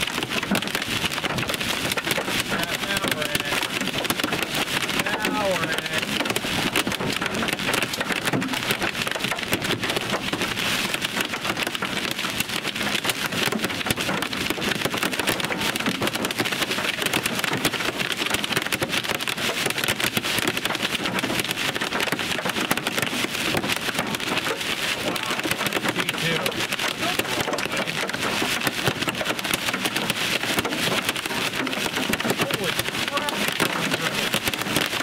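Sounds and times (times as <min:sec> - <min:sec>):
heavy rain on car roof: 0:00.0 - 0:35.0.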